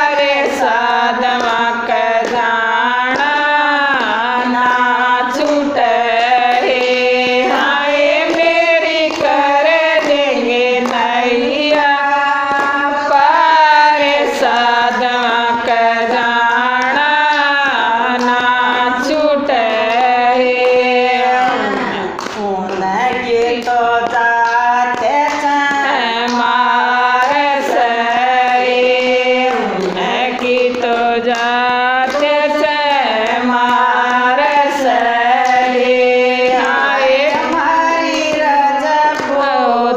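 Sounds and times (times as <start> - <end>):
hand claps: 0.0 - 39.9
women singing devotional song: 0.0 - 39.9.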